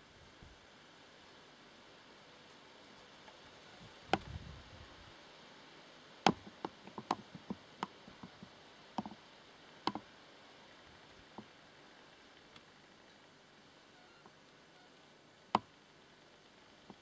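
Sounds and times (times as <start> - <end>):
steady microphone hiss: 0.0 - 17.0.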